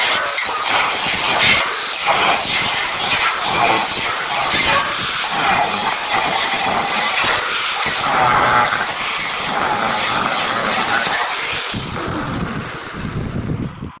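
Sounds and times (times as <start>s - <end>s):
power saw cutting metal pipe: 0.0s - 13.2s.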